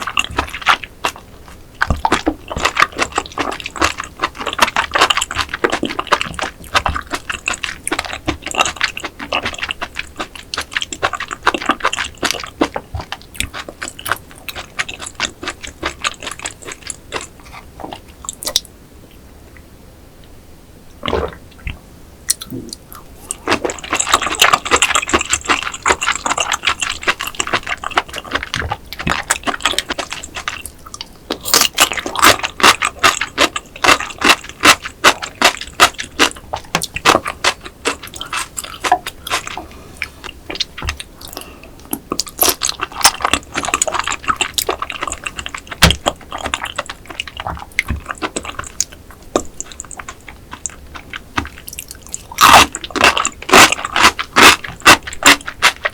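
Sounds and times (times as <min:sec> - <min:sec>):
wet chewing mouth sounds: 0:00.0 - 0:18.7, 0:21.0 - 0:55.9.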